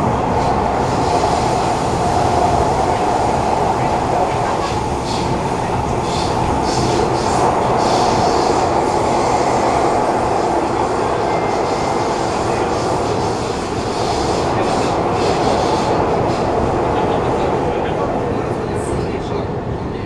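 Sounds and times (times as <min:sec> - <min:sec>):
train wheels roaring on rail: 0:00.0 - 0:20.0.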